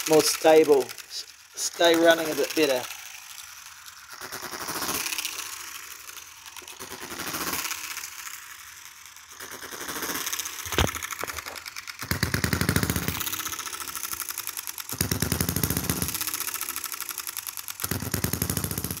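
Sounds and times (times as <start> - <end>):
small gas engine ticking and firing: 0.0 - 19.0.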